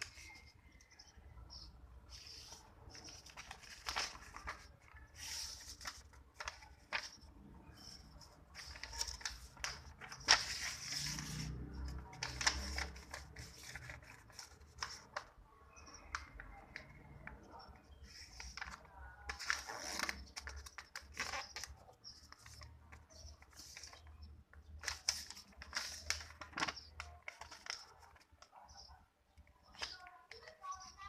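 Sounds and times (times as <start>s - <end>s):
paper rustling and crinkling: 0.0s - 0.6s, 2.1s - 15.4s, 16.0s - 28.9s
paper crease clicks: 2.1s - 28.8s, 29.4s - 31.0s.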